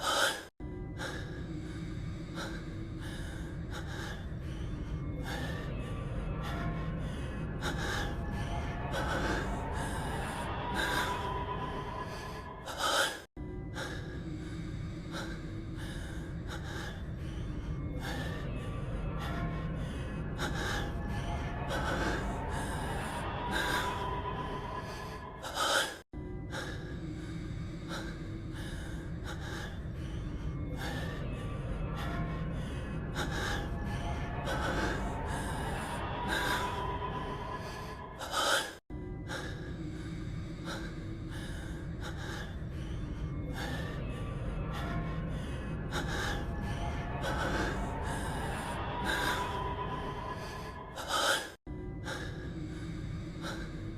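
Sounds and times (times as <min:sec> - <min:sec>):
man breathing heavily: 0:00.0 - 0:53.9.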